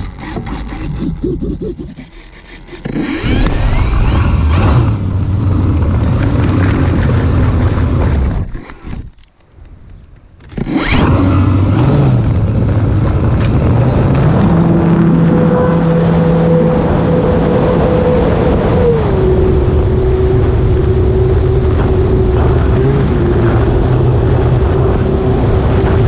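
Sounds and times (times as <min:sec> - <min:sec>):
electric motor and propeller whine: 0:00.0 - 0:26.0.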